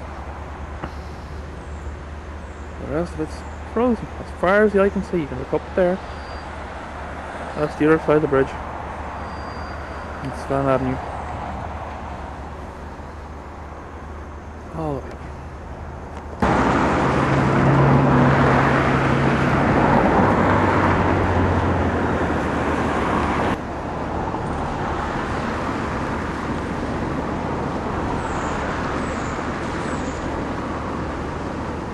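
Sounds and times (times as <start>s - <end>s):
road traffic noise: 0.0s - 31.9s
vehicle engine hum passing: 0.0s - 31.9s.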